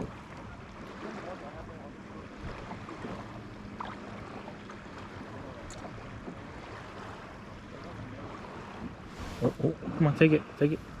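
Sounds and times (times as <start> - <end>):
water noise: 0.0 - 11.0
wind: 0.0 - 11.0.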